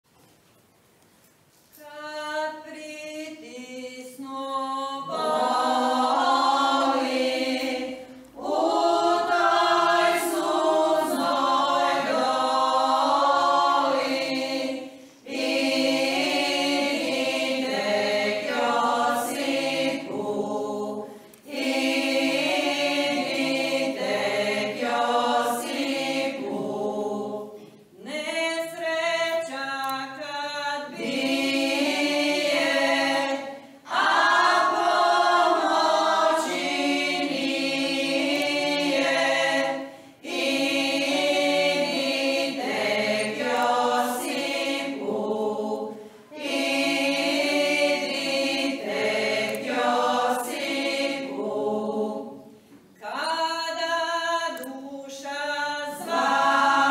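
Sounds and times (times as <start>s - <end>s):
women's choir singing unaccompanied: 1.7s - 56.9s.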